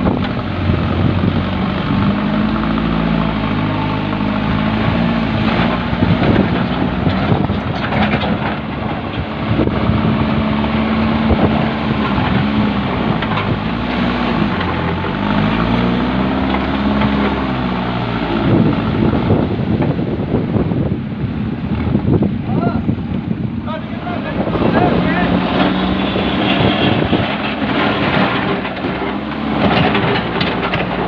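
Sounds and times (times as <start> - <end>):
constant rushing noise: 0.0 - 31.0
diesel engine revving: 0.0 - 31.0.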